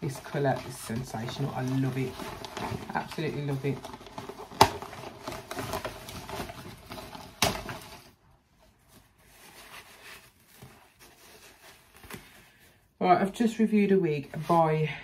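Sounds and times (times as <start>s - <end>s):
wig and packaging rustling: 0.0s - 12.9s, 13.7s - 15.0s.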